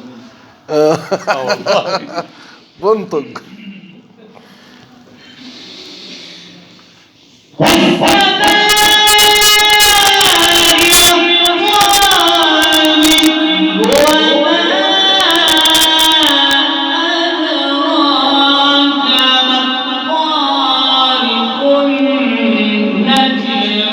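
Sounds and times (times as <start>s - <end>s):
man reciting in melismatic song: 0.1s - 3.8s, 7.6s - 23.9s.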